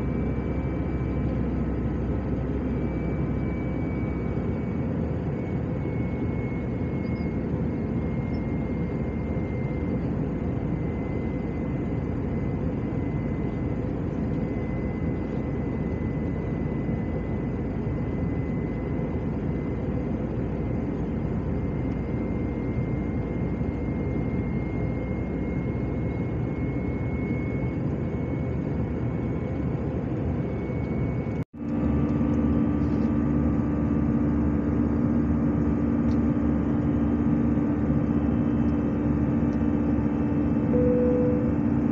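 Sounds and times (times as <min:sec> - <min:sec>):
airplane cabin jet engine drone: 0:00.0 - 0:41.9.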